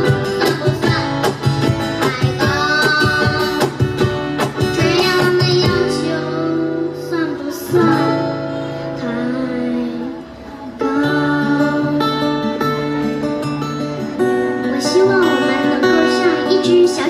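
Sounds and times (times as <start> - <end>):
child singing: 0.0 - 12.5, 14.6 - 17.0
strummed acoustic guitar: 0.0 - 17.0.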